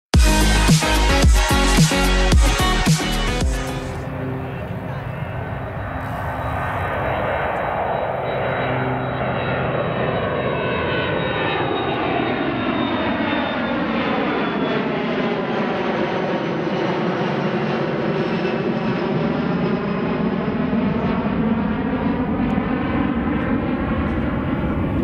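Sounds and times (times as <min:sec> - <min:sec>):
jet engine roar overhead: 0:00.3 - 0:25.0.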